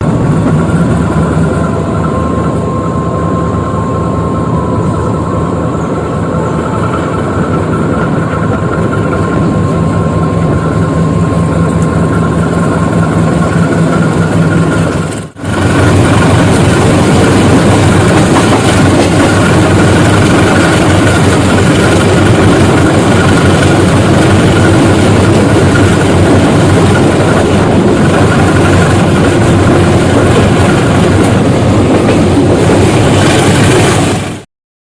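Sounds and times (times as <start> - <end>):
locomotive diesel engine roaring: 0.0 - 34.5.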